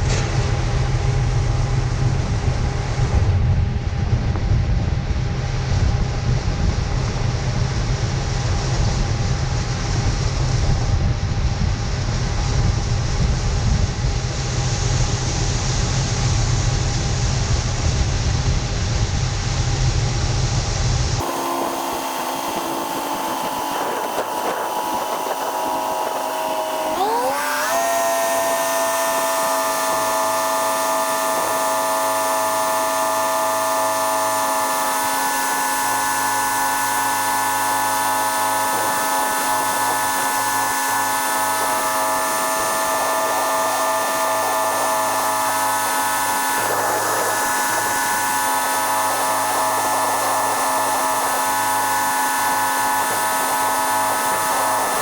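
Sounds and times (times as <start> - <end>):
machine whine: 0.0 - 55.0
steady low hum: 0.0 - 55.0.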